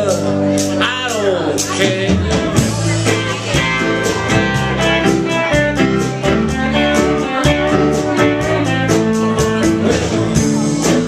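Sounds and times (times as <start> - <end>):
country guitar strumming: 0.0 - 11.0.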